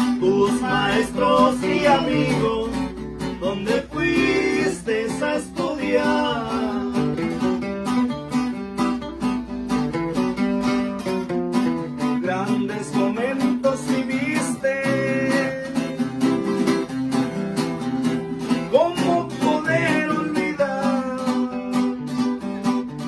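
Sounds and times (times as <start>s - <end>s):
guitars strumming: 0.0s - 23.0s.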